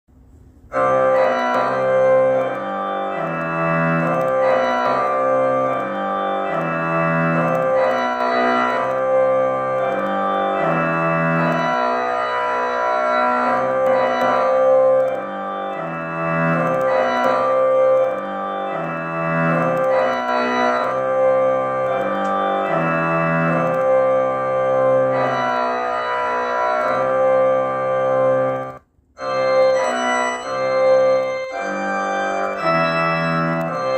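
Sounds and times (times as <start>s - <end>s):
organ keyboard chords: 0.6s - 33.9s.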